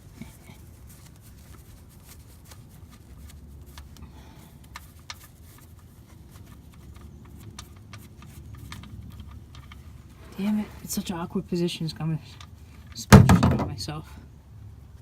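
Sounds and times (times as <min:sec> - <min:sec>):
gloved hands rustling: 0:00.0 - 0:13.0
low steady rumble: 0:00.0 - 0:15.0.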